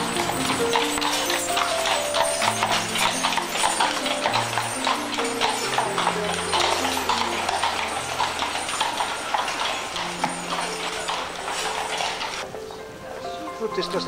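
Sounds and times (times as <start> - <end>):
horse hooves clip-clopping on cobblestones: 0.0 - 14.0.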